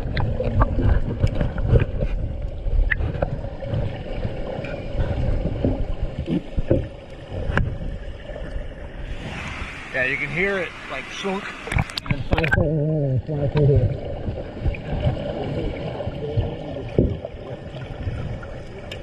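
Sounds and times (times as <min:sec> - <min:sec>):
water rushing and splashing: 0:00.0 - 0:19.0.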